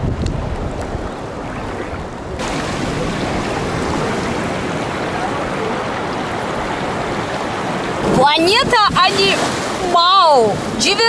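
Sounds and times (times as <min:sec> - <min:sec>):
sea surf washing over rocks: 0:00.0 - 0:11.0
wind rumbling on microphone: 0:00.0 - 0:11.0.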